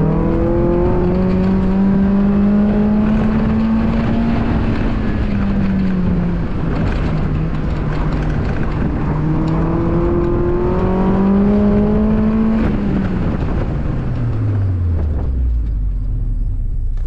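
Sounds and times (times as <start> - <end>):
car engine revving hard: 0.0 - 15.3.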